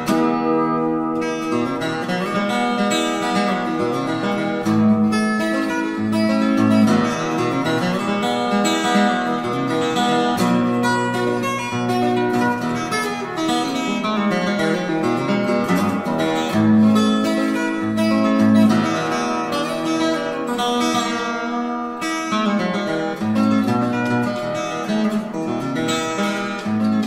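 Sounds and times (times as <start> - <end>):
acoustic guitar picking and strumming: 0.0 - 27.0.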